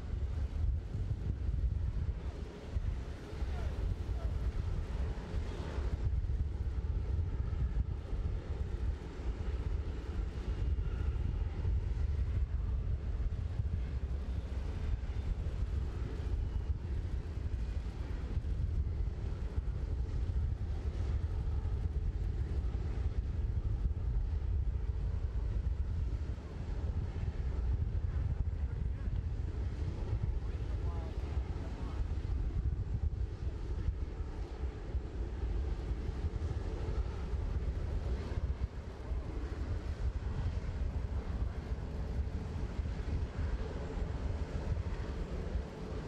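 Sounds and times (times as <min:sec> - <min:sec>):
jet aircraft rumble: 0:00.0 - 0:46.0
wind buffeting microphone: 0:00.0 - 0:46.0.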